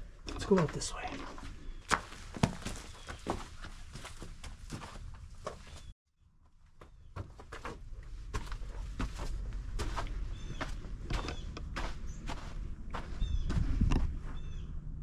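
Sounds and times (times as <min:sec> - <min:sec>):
footsteps on rocky ground: 0:00.4 - 0:05.9, 0:06.8 - 0:14.6.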